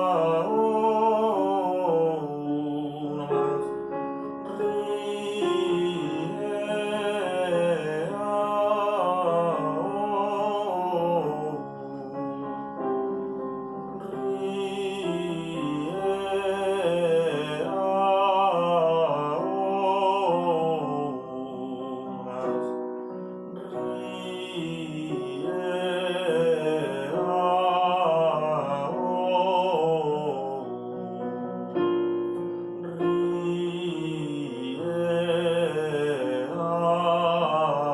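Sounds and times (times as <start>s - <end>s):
man singing vocal exercise: 0.0s - 13.3s, 13.9s - 31.9s, 32.8s - 37.9s
piano chords: 0.0s - 37.9s.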